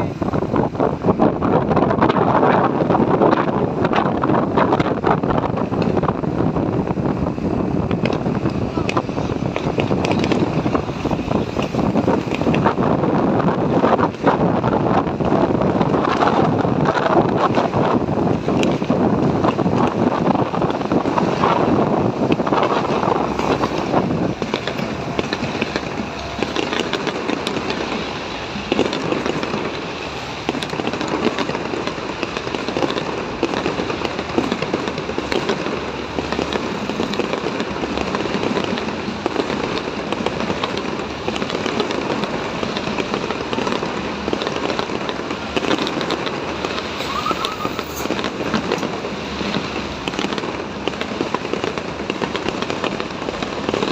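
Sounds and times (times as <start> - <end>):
fireworks crackling and popping: 0.0 - 53.9
wind rumble on microphone: 0.0 - 53.9.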